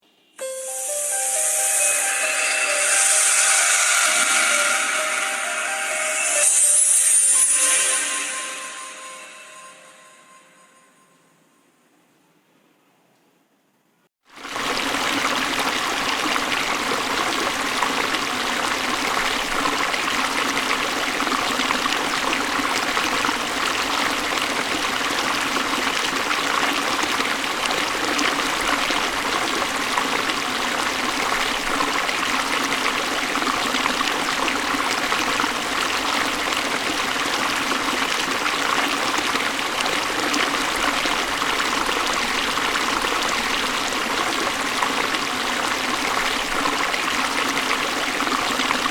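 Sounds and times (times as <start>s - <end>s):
river flowing: 0.8s - 10.2s, 14.3s - 48.9s.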